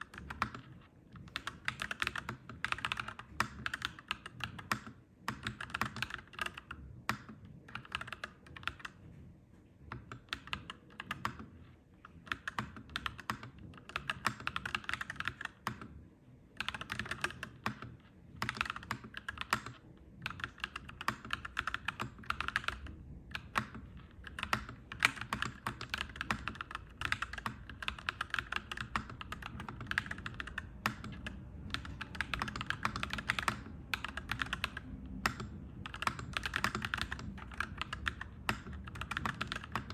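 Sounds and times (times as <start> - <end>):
mechanical keyboard typing: 0.0 - 9.1, 9.8 - 39.9.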